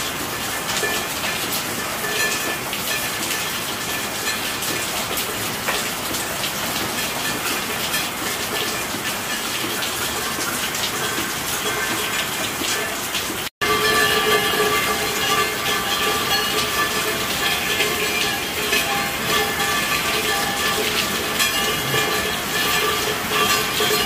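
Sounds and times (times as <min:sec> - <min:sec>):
rain hissing: 0:00.0 - 0:24.0
raindrops tapping: 0:00.0 - 0:24.0.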